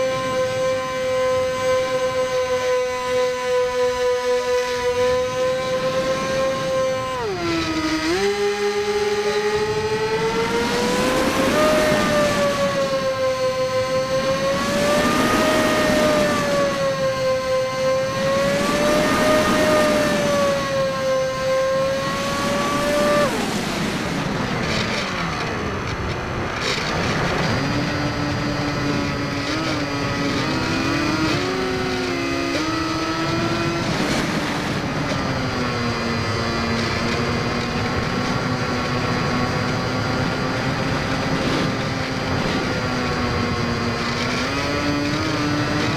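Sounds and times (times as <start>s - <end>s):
electric motor whining: 0.0s - 45.9s
wind rushing over camera: 0.0s - 45.9s.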